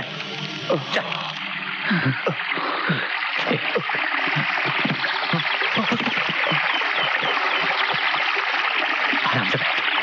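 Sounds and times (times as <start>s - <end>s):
water rushing hiss: 0.6s - 10.0s.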